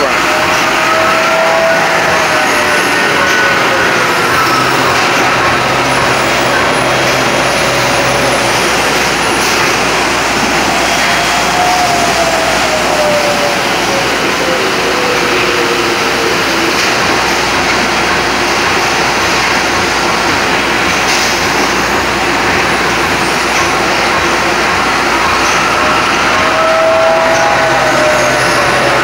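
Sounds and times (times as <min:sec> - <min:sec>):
factory machinery din: 0:00.0 - 0:29.0.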